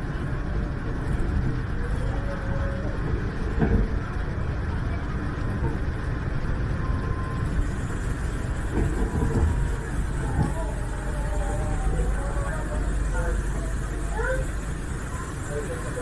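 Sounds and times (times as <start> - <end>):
monorail train rumble: 0.0 - 16.0.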